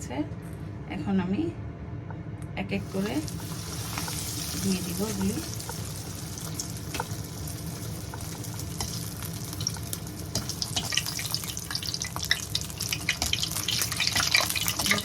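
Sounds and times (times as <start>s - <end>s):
food deep-frying in hot oil: 2.8s - 15.0s.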